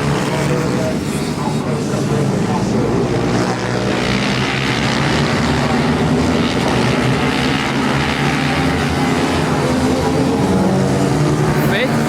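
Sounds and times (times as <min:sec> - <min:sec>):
motorbike engines running hard: 0:00.0 - 0:12.0.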